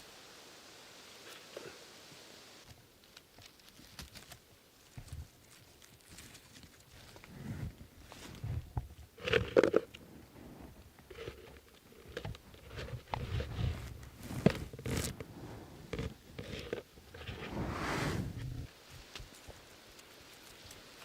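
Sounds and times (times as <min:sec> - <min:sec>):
rustling leaves and twigs: 0:00.0 - 0:17.9, 0:18.5 - 0:21.0.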